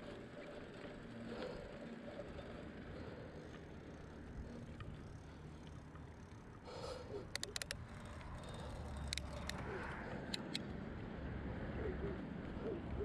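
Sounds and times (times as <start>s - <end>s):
bicycle clicks and rattles: 0.0s - 10.8s
road rumble: 0.0s - 13.0s.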